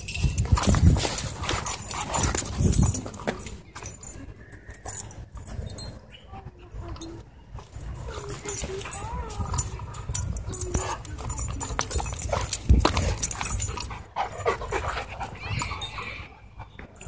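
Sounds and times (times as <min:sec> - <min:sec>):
handheld camera rumble: 0:00.0 - 0:17.0.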